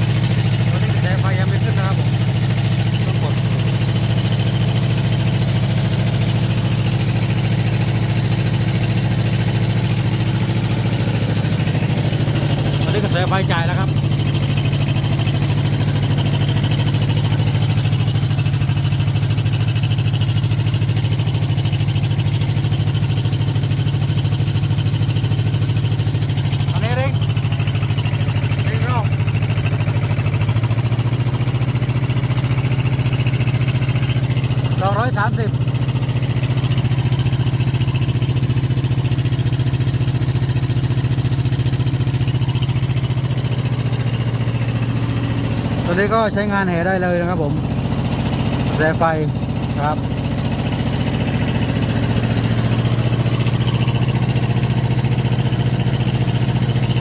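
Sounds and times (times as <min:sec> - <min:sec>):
diesel generator engine running: 0:00.0 - 0:57.0.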